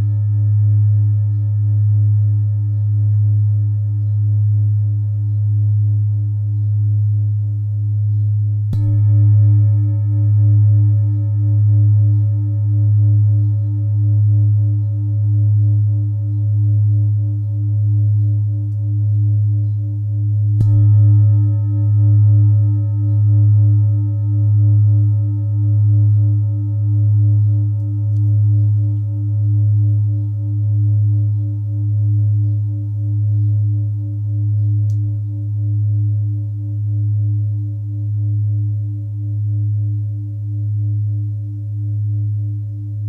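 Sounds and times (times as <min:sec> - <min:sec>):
singing bowl ringing: 0:00.0 - 0:07.1, 0:08.1 - 0:43.0.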